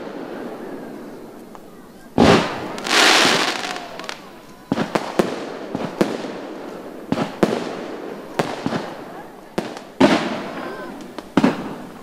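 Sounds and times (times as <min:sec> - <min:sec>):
fireworks bangs: 0:00.0 - 0:12.0
fireworks hissing rush: 0:00.0 - 0:12.0.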